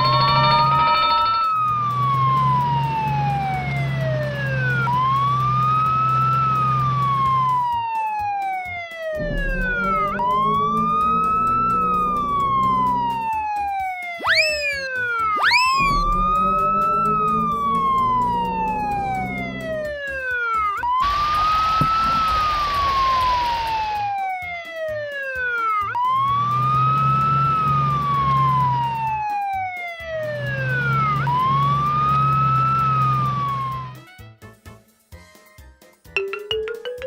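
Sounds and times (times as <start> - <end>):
fire truck siren wailing: 0.0 - 34.2.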